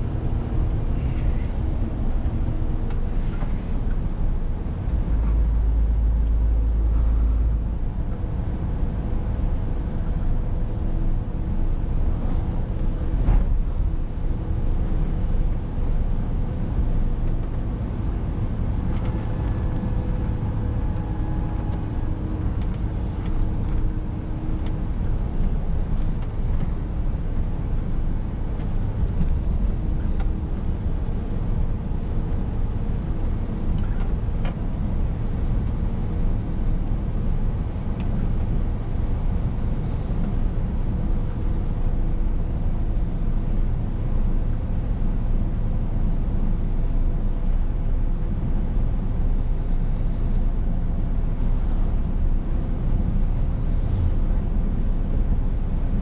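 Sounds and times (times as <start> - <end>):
truck diesel engine droning: 0.0 - 55.6
tyre and road noise: 0.0 - 55.8.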